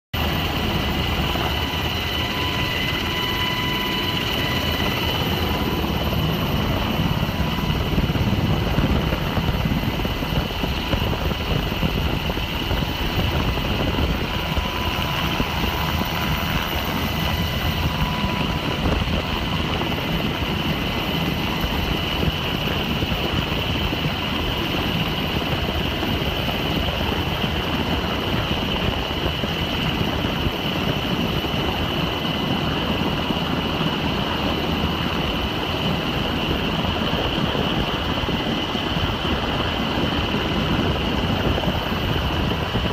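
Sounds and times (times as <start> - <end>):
helicopter rotor and engine: 0.1 - 42.9
high whine: 0.2 - 42.9.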